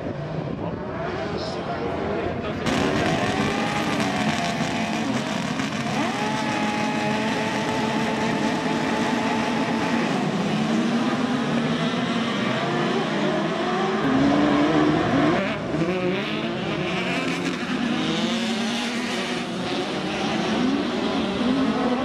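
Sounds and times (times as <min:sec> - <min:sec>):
racing buggy engines revving: 0:00.0 - 0:22.0.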